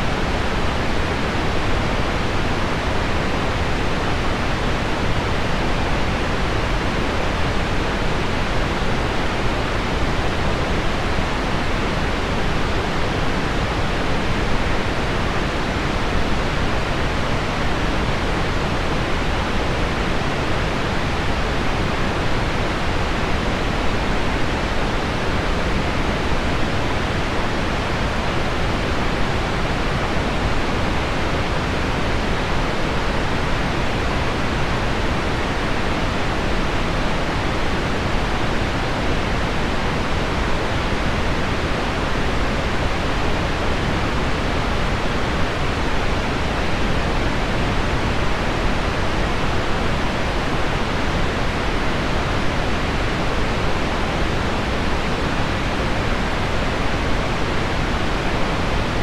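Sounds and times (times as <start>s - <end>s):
pink noise: 0.0s - 59.0s.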